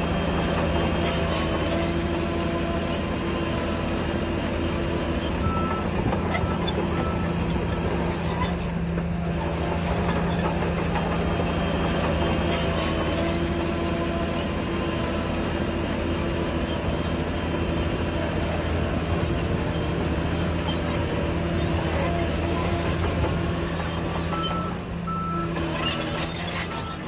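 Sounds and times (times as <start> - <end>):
diesel engine under load: 0.0 - 27.0
machinery squeal: 0.1 - 15.4, 16.4 - 27.0.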